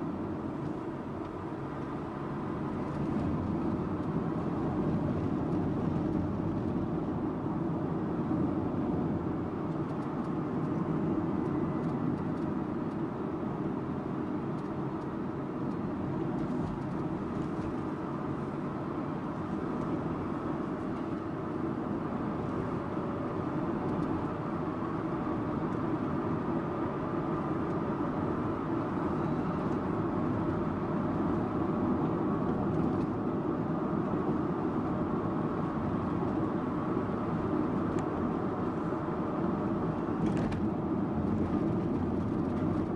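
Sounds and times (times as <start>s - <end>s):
car engine hum: 0.0s - 42.9s
tyre and road noise: 0.0s - 42.9s.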